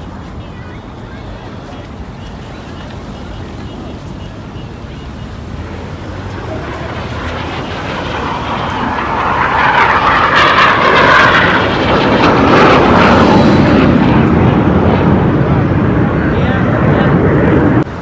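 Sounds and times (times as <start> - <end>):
aircraft flying low past: 2.0 - 18.0.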